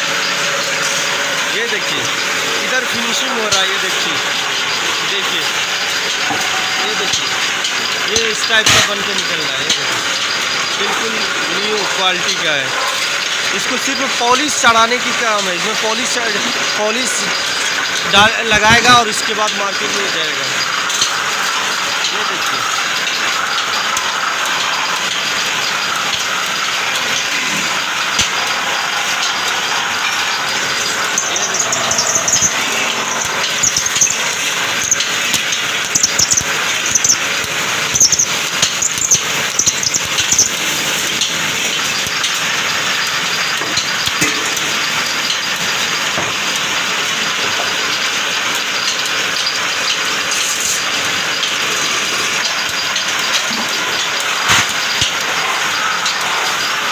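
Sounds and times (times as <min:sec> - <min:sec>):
hand tool squealing on metal: 0:00.0 - 0:45.6
metal-spinning lathe running: 0:00.0 - 0:56.9.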